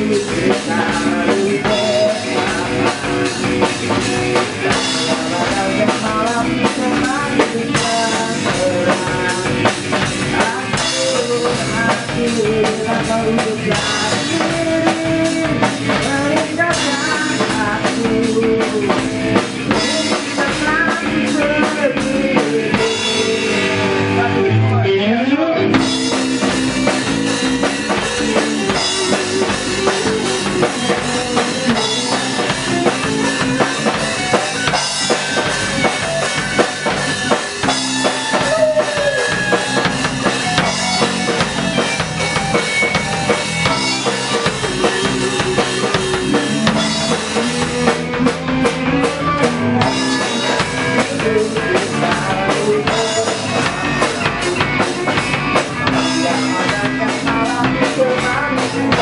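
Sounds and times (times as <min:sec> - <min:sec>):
rock music with drums and guitar: 0:00.0 - 0:59.0.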